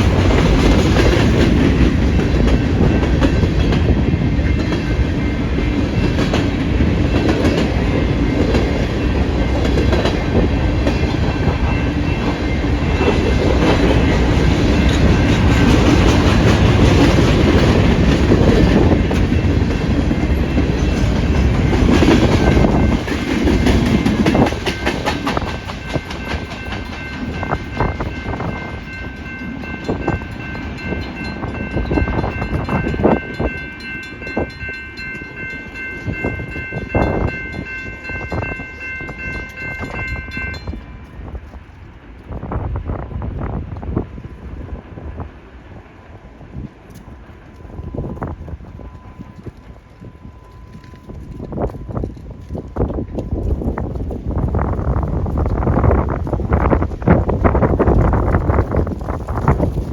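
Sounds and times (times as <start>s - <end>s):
train wheels clicking over rail joints: 0.0s - 42.3s, 46.6s - 59.9s
freight train rumbling past: 0.0s - 59.9s
wind buffeting microphone: 0.0s - 59.9s.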